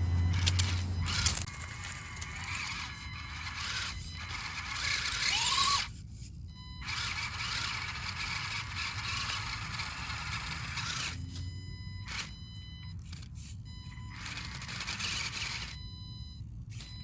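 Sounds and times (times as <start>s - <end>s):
toy car motor and gears whining: 0.0s - 17.0s.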